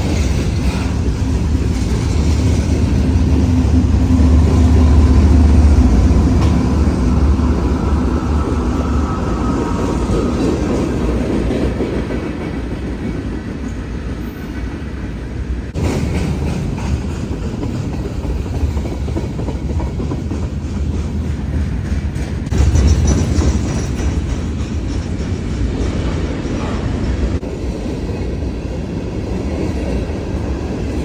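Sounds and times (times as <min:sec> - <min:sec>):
freight train wheels clacking: 0:00.0 - 0:31.0.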